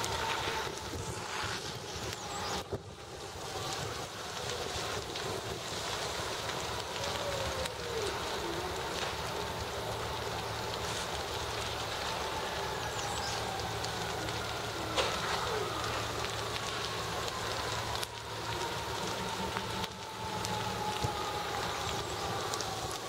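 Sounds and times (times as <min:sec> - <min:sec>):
fire burning and water hissing: 0:00.0 - 0:23.0
fire engine pump drone: 0:00.0 - 0:23.0
sharp crack: 0:00.0 - 0:23.0.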